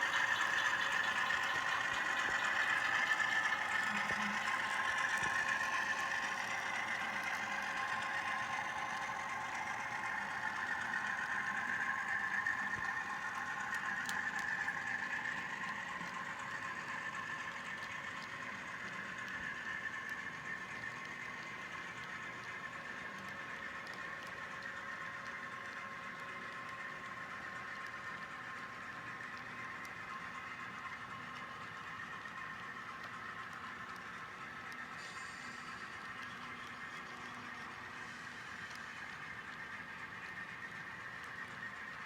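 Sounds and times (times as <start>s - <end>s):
simulated diesel engine drone: 0.0s - 42.0s.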